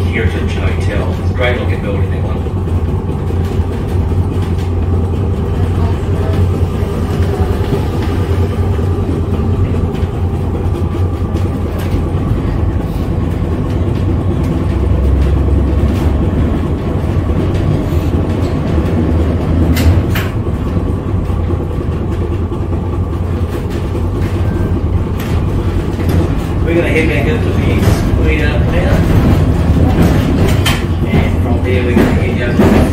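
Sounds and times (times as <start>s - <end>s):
tram rumbling: 0.0s - 32.9s.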